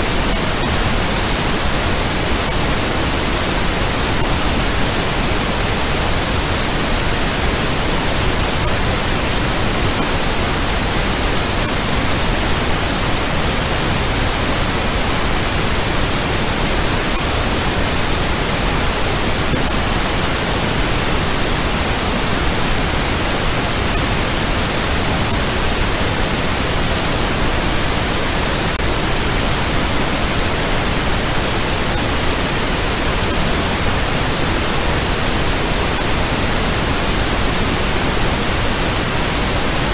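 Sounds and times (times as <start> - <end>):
loud generated noise hiss: 0.0 - 39.9.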